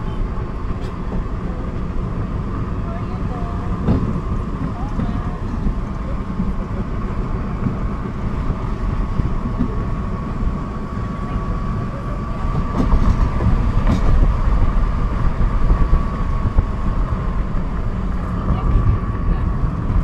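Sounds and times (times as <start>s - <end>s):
car cabin road and wind rumble: 0.0s - 20.0s.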